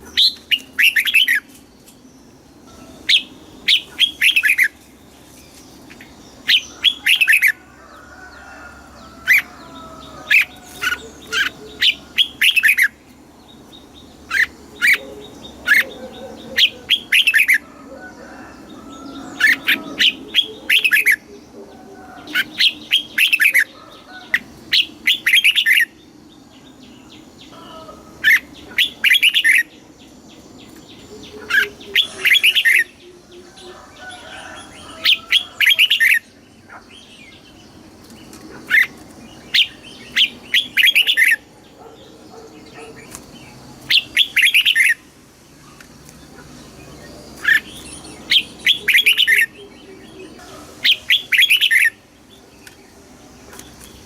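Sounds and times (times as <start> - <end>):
bird singing sweeping notes: 9.0 - 45.8, 46.7 - 54.0.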